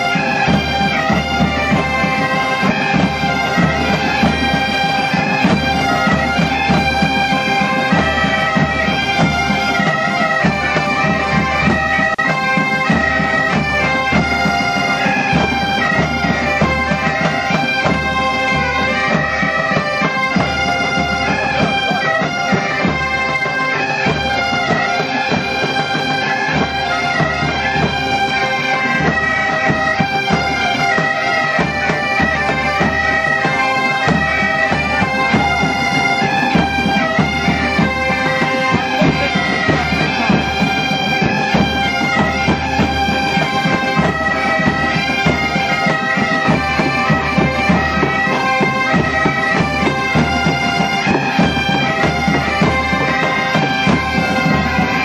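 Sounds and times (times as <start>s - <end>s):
bagpipes playing a tune: 0.0s - 55.0s.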